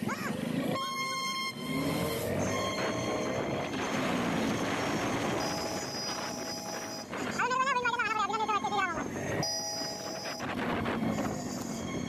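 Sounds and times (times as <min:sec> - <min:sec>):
motorcycle engine: 0:00.0 - 0:12.0
wind and road noise: 0:00.0 - 0:12.0.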